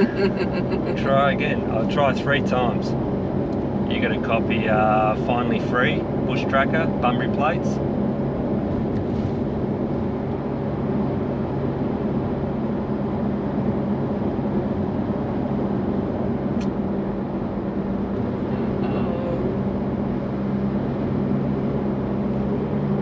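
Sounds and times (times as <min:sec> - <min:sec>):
road and engine noise in cabin: 0:00.0 - 0:23.0.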